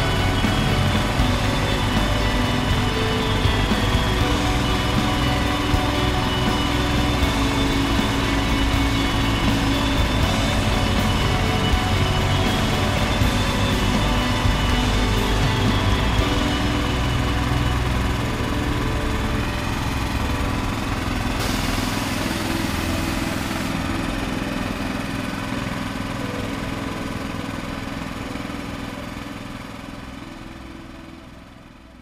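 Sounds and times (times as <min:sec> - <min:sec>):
crane truck engine running: 0:00.0 - 0:32.0.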